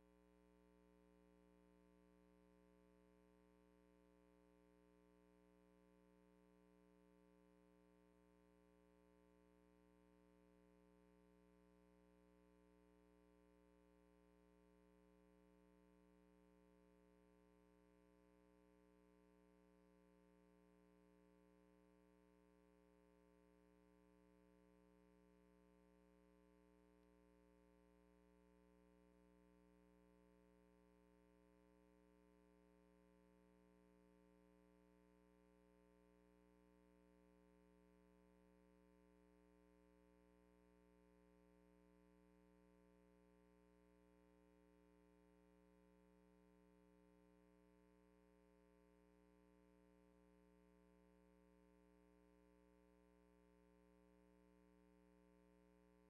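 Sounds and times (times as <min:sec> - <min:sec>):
faint steady hum of held tones: 0:00.0 - 0:56.0.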